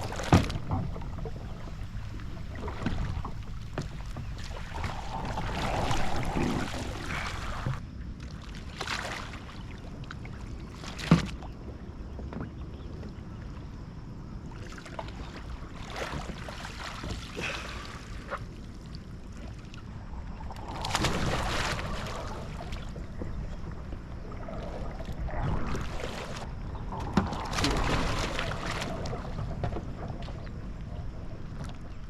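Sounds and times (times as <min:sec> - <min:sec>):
low rumble of water and wind: 0:00.0 - 0:32.0
water splashing around a kayak: 0:00.0 - 0:32.0.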